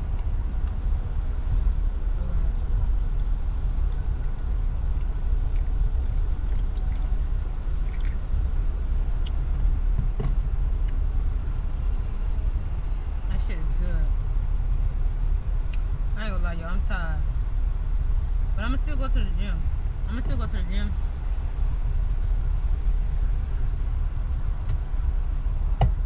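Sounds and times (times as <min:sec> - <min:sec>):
truck engine rumble: 0:00.0 - 0:26.0.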